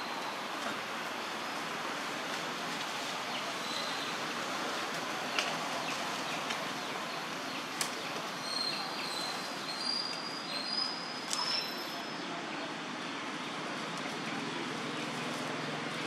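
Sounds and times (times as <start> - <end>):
outdoor ambient hiss: 0.0 - 16.0.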